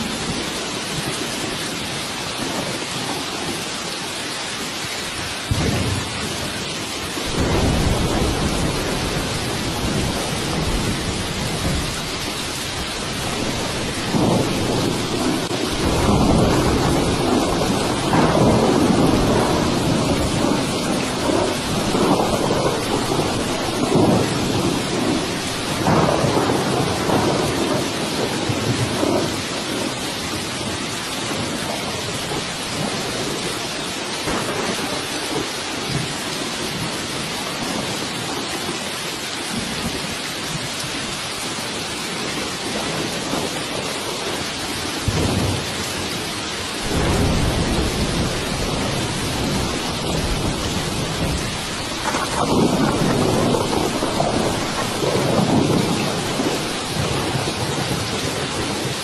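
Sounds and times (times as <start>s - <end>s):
heavy rain: 0.0s - 59.0s
rolling thunder: 5.1s - 38.8s, 39.5s - 59.0s.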